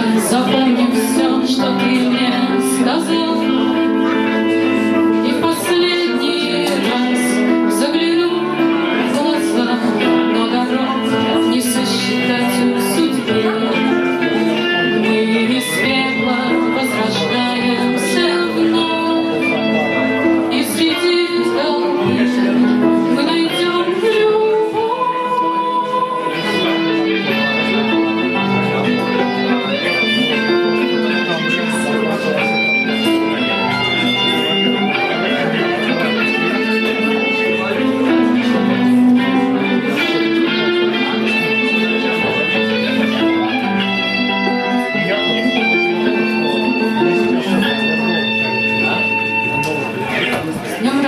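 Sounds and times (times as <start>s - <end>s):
band music with guitar: 0.0s - 51.0s
person singing: 0.0s - 51.0s.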